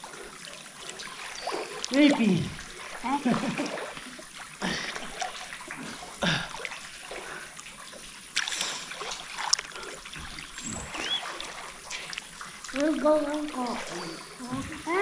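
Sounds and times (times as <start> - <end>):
water splashing in pool: 0.0 - 15.0
water trickling: 0.0 - 15.0.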